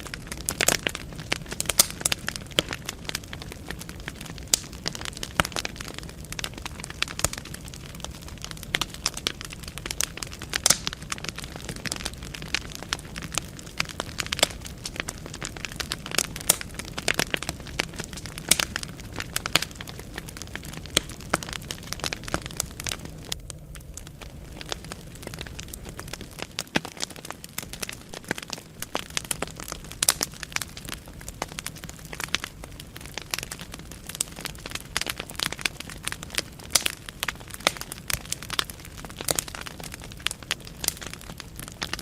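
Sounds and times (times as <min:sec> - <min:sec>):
low rumble of flame: 0:00.0 - 0:42.0
wood fire crackling and popping: 0:00.0 - 0:42.0.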